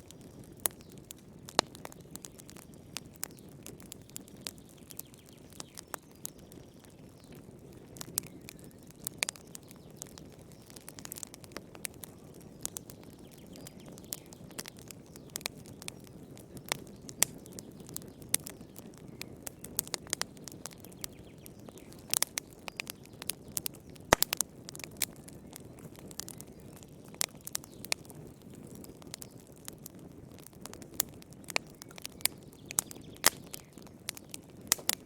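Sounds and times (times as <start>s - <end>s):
fire popping and snapping: 0.0s - 35.0s
wood fire crackling: 0.0s - 35.0s.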